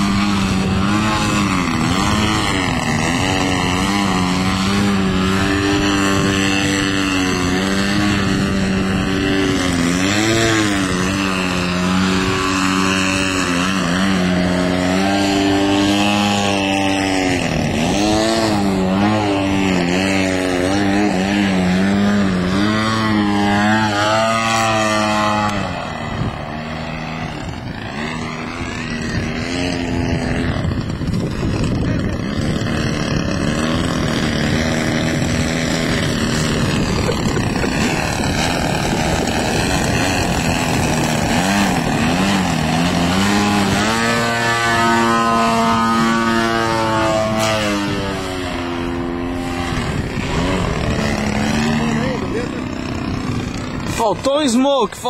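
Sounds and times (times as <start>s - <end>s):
model airplane engine droning: 0.0s - 55.0s.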